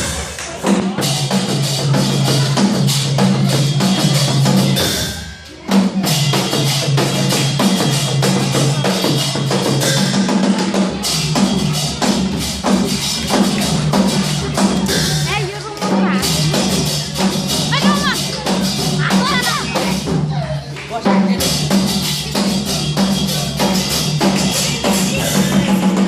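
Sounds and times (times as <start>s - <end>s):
dense drumming: 0.0s - 20.4s, 21.0s - 26.0s
live folk band playing: 0.0s - 26.0s.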